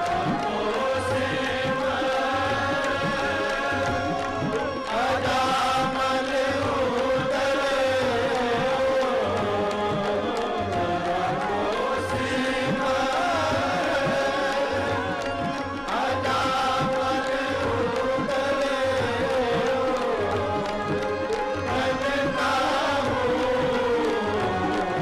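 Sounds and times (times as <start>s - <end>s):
group singing a hymn: 0.0s - 25.0s
harmonium chords: 0.0s - 25.0s
tabla beat: 0.0s - 25.0s.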